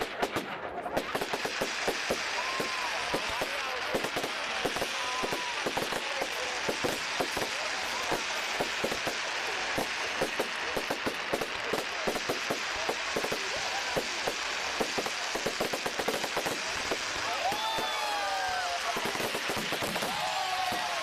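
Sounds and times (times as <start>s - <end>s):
fireworks crackling: 0.0s - 21.0s
steady hiss: 1.0s - 21.0s.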